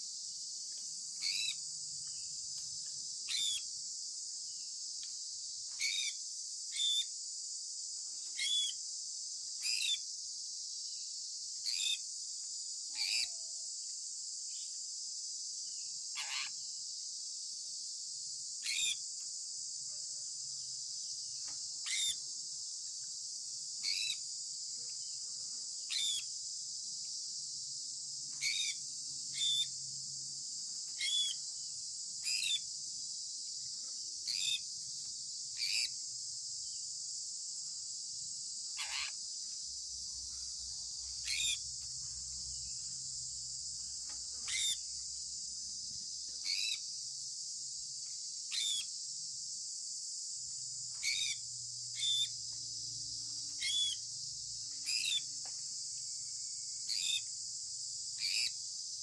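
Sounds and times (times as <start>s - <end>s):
high-pitched insect drone: 0.0s - 7.3s, 8.0s - 59.0s.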